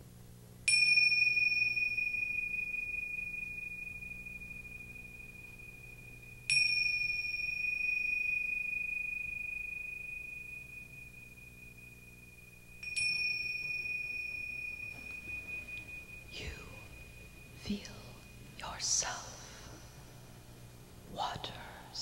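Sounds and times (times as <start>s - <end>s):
bell-like chimes: 0.7s - 20.2s.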